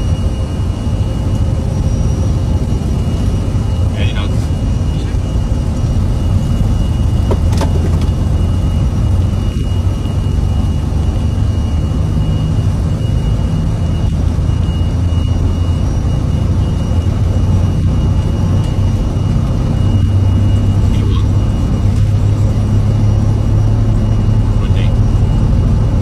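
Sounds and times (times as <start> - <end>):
jet engines at take-off thrust: 0.0 - 26.0.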